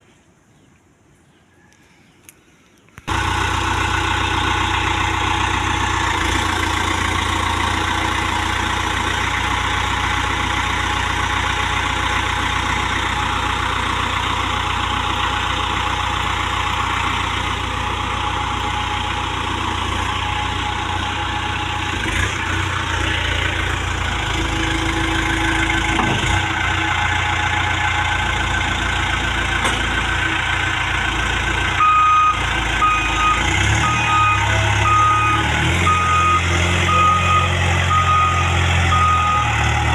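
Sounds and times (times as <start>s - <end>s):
diesel engine running: 3.1s - 39.9s.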